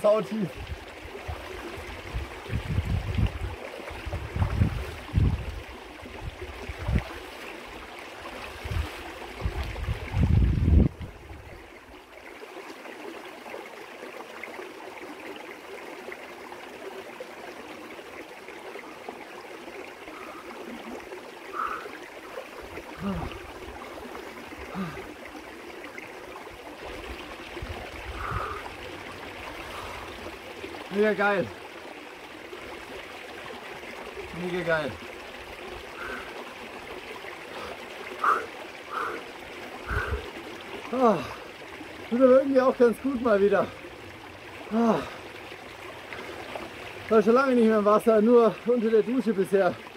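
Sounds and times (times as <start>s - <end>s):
stream trickling and babbling: 0.0s - 49.9s
water gurgling blips: 0.0s - 49.9s.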